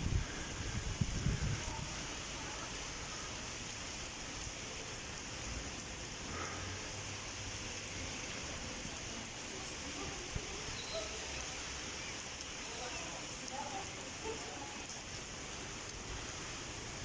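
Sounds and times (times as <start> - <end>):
heavy rain on hard surfaces: 0.0 - 17.0.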